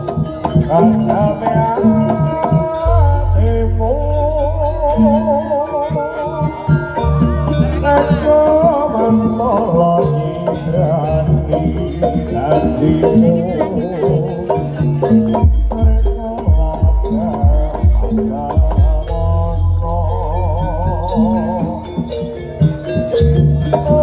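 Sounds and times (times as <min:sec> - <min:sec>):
hand drums: 0:00.0 - 0:24.0
ornamented melody line: 0:00.0 - 0:24.0.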